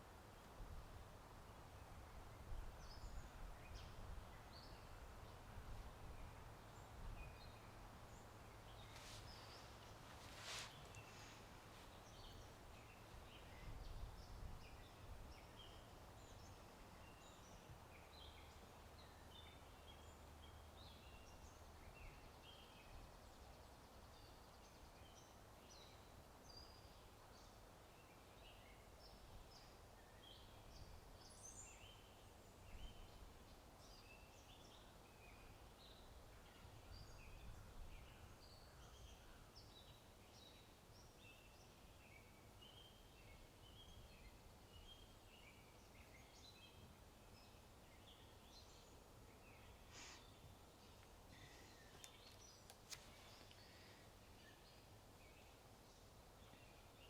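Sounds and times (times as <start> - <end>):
small birds chirping: 1.4 - 57.0.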